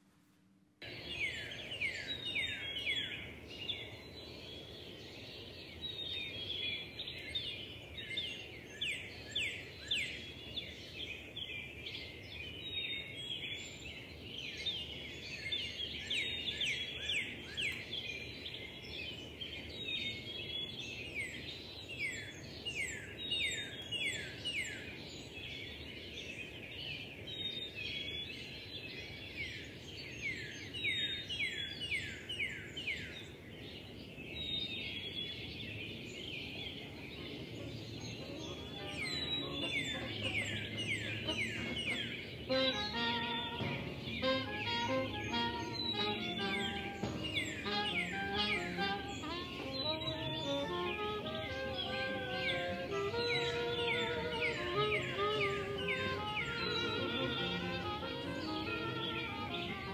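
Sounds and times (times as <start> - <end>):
steady background hiss: 0.0 - 59.9
recorded birds chirping: 0.8 - 59.9.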